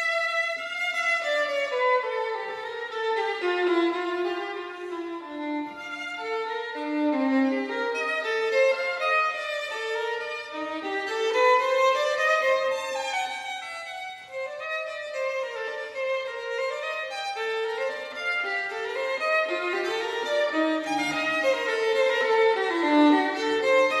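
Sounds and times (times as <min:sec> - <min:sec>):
violin melody: 0:00.0 - 0:24.0.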